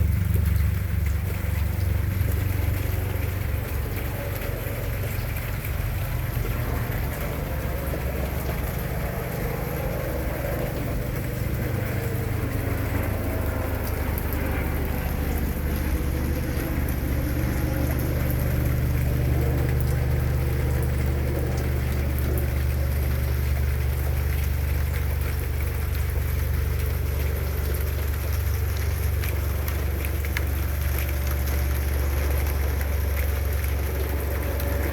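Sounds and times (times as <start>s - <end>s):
low rumble: 0.0s - 34.9s
rain falling: 0.0s - 34.9s.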